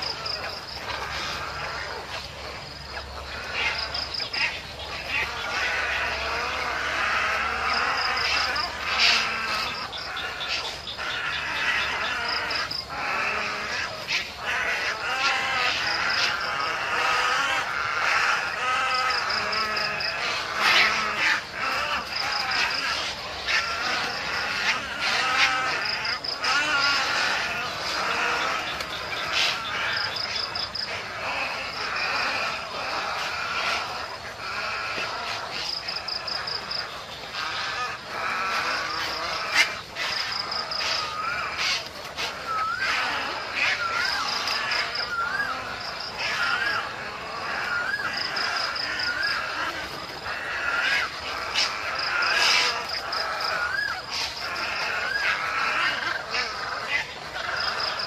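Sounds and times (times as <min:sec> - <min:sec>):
egret colony calling: 0:00.0 - 0:58.0.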